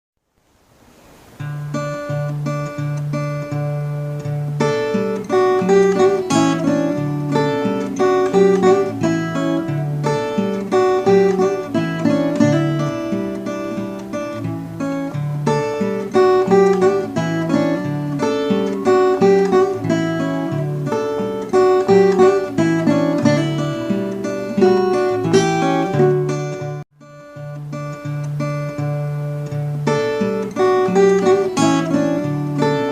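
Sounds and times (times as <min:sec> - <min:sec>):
acoustic guitar melody with bass: 0:01.2 - 0:32.9.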